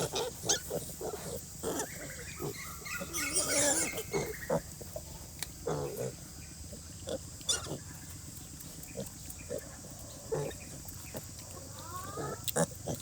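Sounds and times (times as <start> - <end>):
pigs grunting: 0.0 - 7.9, 8.9 - 13.0.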